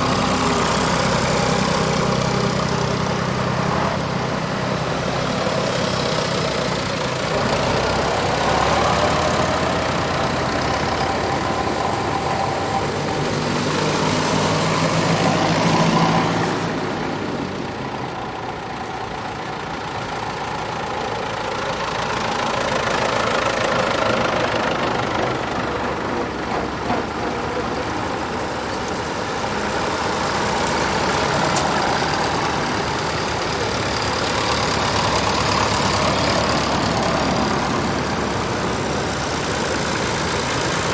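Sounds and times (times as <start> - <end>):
tractors driving past: 0.0 - 40.9.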